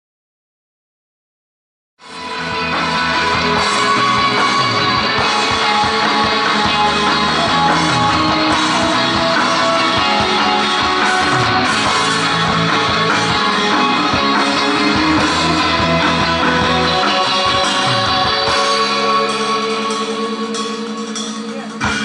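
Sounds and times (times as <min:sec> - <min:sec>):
live guitar-led rock music: 0:02.0 - 0:22.0.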